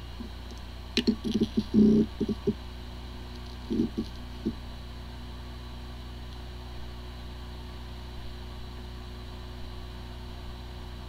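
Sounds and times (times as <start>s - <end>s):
hard disk spinning hum: 0.0s - 11.0s.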